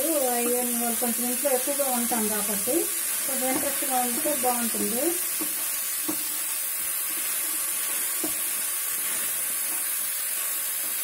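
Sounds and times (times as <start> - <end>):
banana pieces sizzling in oil: 0.0 - 11.0
spatula stirring in pan: 0.0 - 11.0.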